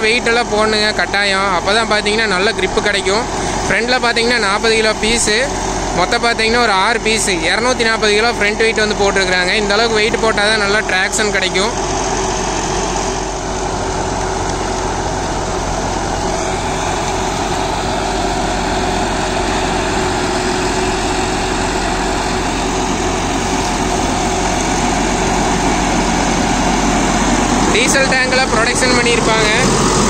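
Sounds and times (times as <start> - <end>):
tractor diesel engine under load: 0.0 - 30.0
rotary tiller mulching stalks: 0.1 - 30.0.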